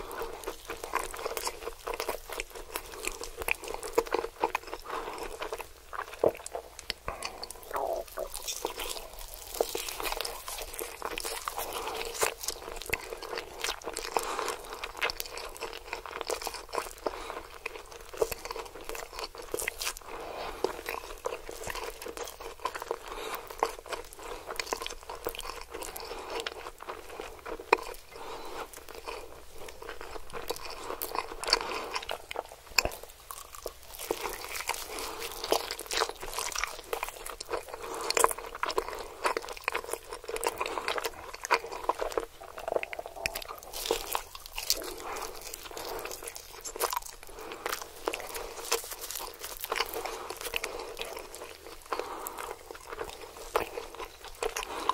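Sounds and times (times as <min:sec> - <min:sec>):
crunching and wet chewing: 0:00.0 - 0:54.9.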